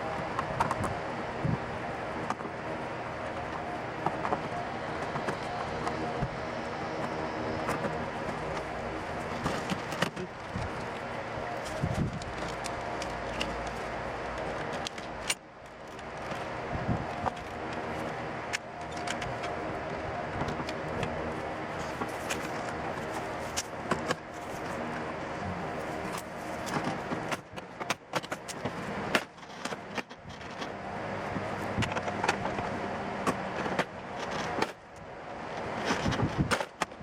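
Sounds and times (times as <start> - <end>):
steady mechanical hum: 0.0 - 37.0
hand tools clicking and scraping: 0.2 - 34.9.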